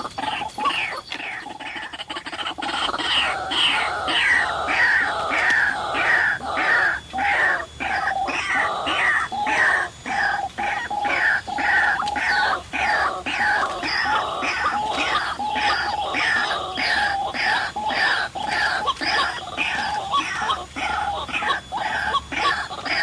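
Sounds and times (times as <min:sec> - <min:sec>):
bird calling repeated notes: 0:00.0 - 0:23.0.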